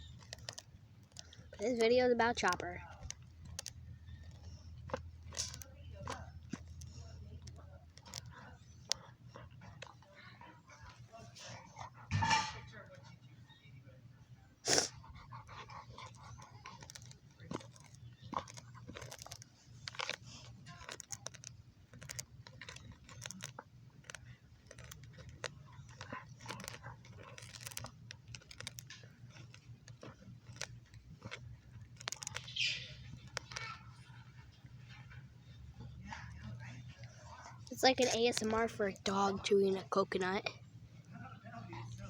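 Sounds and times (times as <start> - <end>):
dog chewing coconut shell: 0.0 - 42.0.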